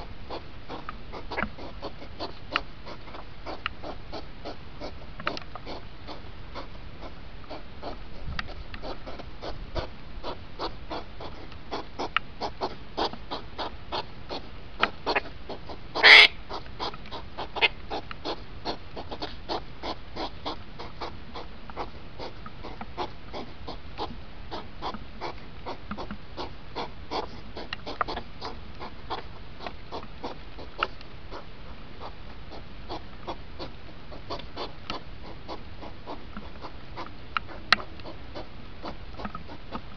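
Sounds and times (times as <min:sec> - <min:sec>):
sharp animal call: 0:00.0 - 0:05.0, 0:05.6 - 0:39.8
hedgehogs snorting and huffing: 0:00.0 - 0:39.9.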